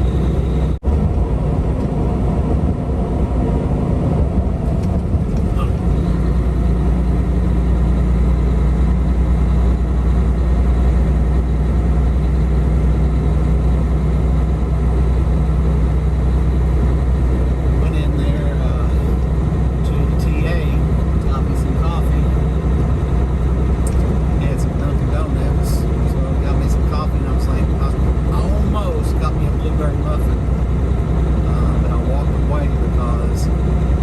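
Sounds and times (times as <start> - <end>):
road noise: 0.0 - 34.0
truck engine drone: 0.0 - 34.0.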